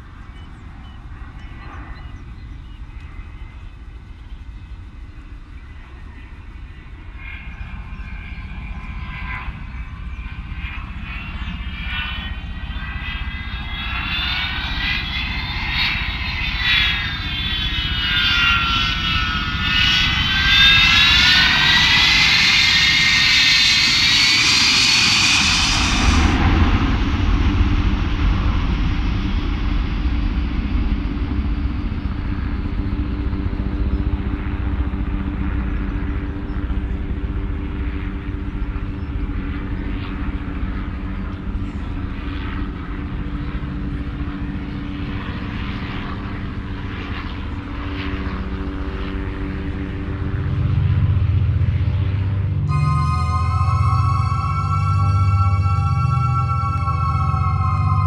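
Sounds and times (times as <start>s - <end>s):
high wavering jet whine: 0.0s - 58.0s
jet engine rumble: 0.0s - 58.0s.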